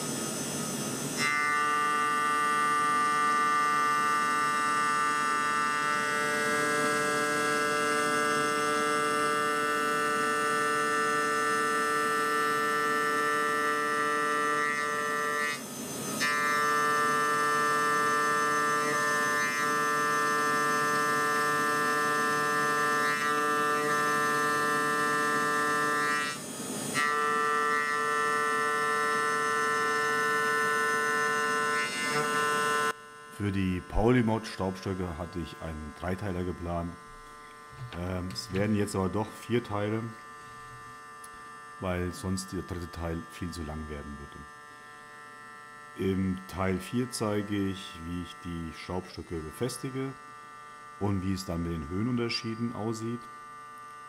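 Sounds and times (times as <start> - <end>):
milling machine spindle whine: 0.0 - 54.0.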